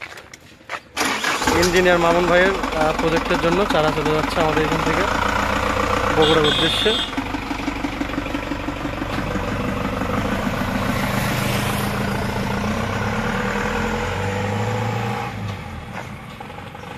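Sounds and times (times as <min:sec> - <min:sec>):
pickup truck engine driving off: 0:01.0 - 0:16.9.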